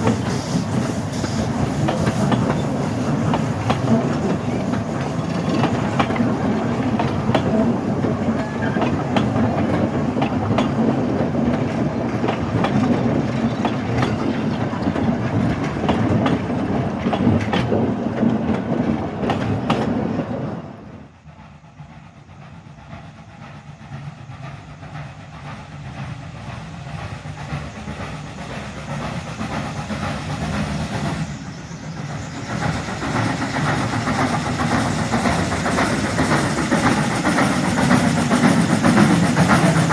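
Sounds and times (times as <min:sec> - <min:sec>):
train rumble: 0:00.0 - 0:39.9
train wheels clicking on rails: 0:00.0 - 0:39.9.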